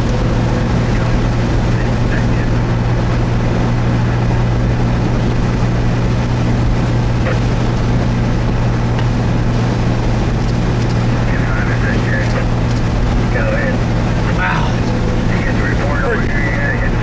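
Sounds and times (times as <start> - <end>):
vehicle cabin drone and rushing: 0.0 - 17.0.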